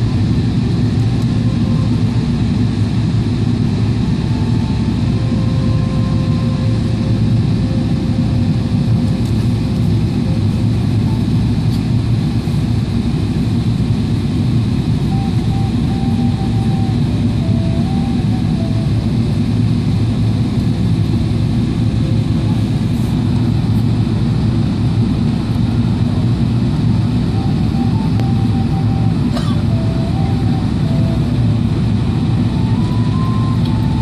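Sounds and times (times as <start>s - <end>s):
airliner cabin noise: 0.0s - 34.0s.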